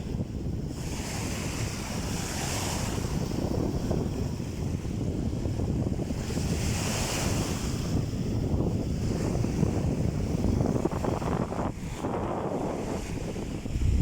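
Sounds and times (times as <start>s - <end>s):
sea waves breaking on beach: 0.0s - 14.0s
wind blowing across microphone: 0.0s - 14.0s.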